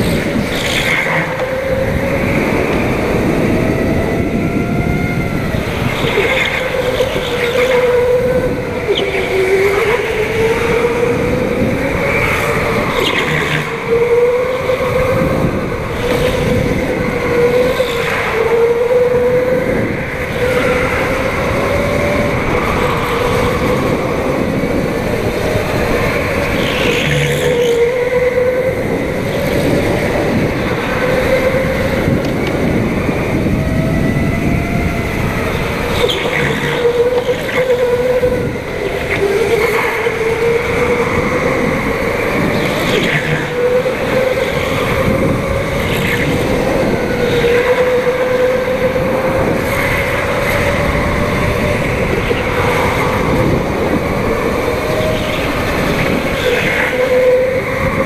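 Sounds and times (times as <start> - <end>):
go-kart motor racing: 0.0 - 58.0.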